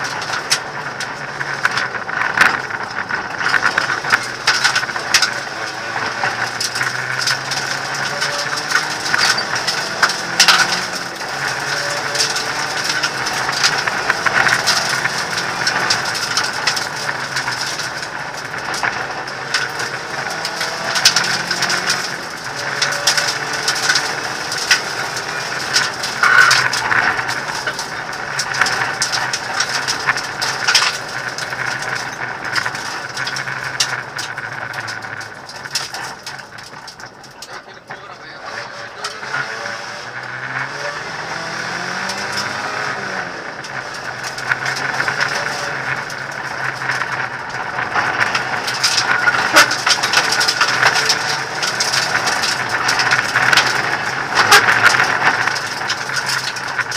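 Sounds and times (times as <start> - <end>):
car engine under load: 0.0 - 56.9
gravel clattering against car body: 0.0 - 56.9.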